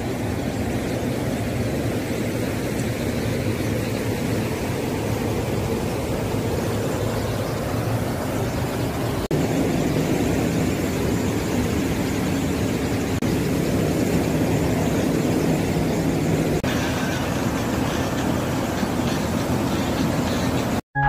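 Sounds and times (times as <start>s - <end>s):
river rushing over boulders: 0.0s - 20.8s.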